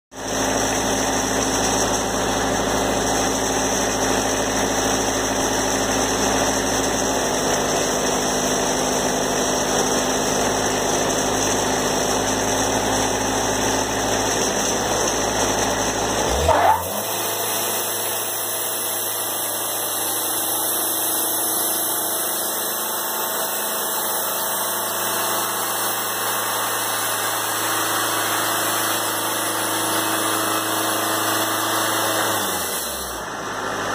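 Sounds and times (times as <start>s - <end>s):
sawmill engine running: 0.2s - 33.9s.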